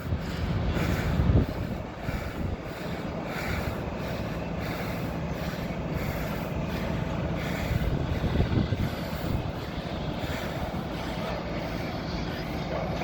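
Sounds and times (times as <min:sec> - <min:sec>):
construction vehicle engine rumbling: 0:00.0 - 0:13.0.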